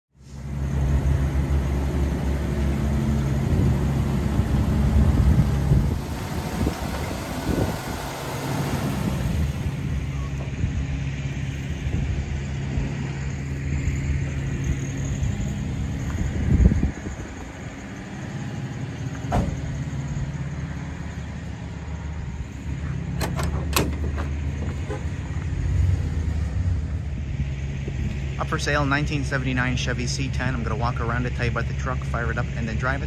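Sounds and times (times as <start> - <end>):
car engine running: 0.4 - 33.0.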